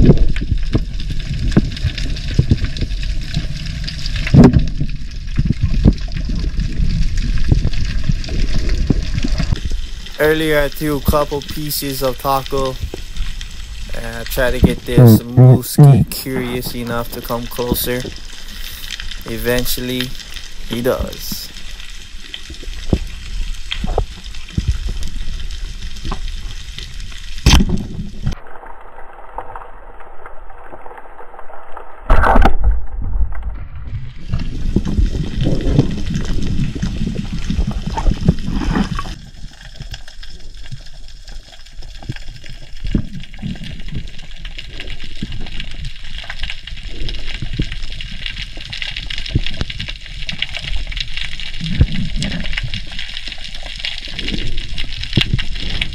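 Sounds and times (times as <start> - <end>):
water sloshing and gurgling: 0.0 - 19.4, 21.5 - 55.9.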